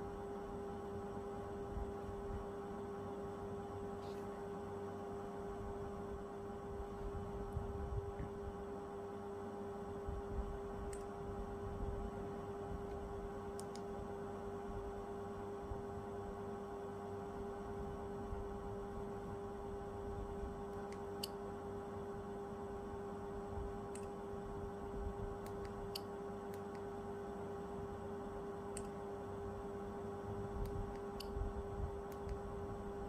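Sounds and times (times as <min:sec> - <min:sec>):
background hum with pitched tone: 0:00.0 - 0:33.0.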